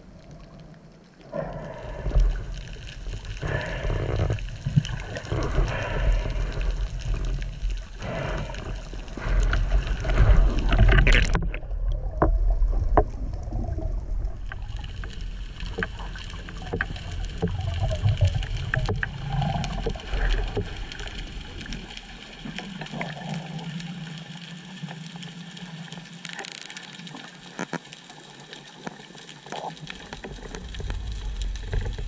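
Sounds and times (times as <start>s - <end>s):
water rushing underwater: 0.0s - 26.4s, 28.3s - 32.0s.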